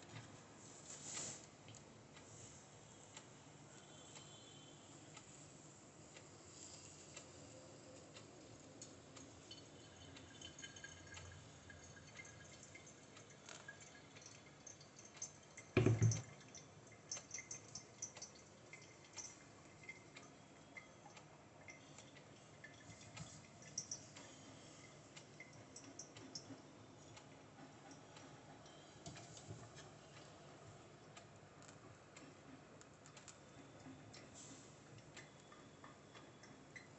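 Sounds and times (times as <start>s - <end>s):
coffee dripping: 6.2s - 36.9s.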